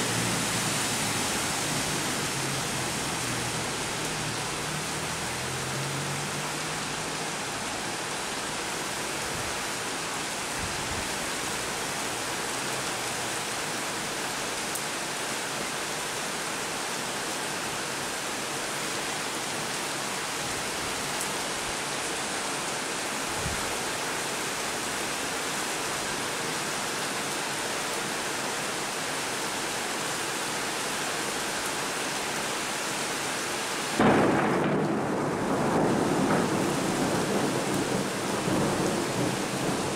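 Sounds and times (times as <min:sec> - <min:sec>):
heavy rain on water: 0:00.0 - 0:39.9.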